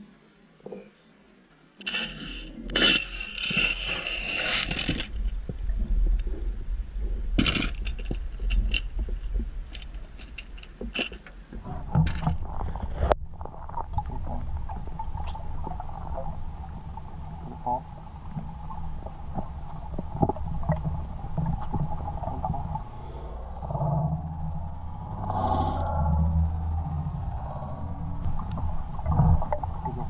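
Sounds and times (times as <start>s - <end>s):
muffled underwater rumble: 2.2s - 30.0s.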